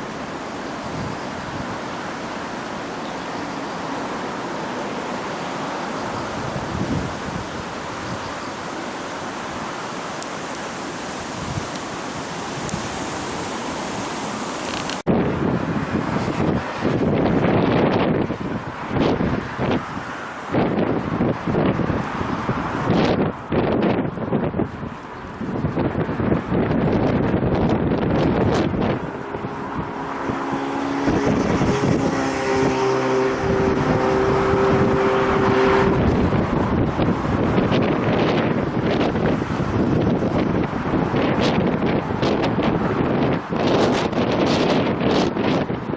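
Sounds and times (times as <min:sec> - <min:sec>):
swollen river rushing: 0:00.0 - 0:45.9
vehicle engine humming: 0:00.0 - 0:45.9
wind buffeting microphone: 0:00.0 - 0:45.9.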